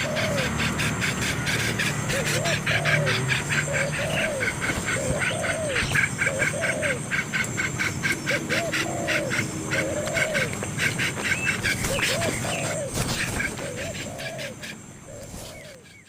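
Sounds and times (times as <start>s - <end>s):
lower arched animal calls: 0.0s - 15.9s.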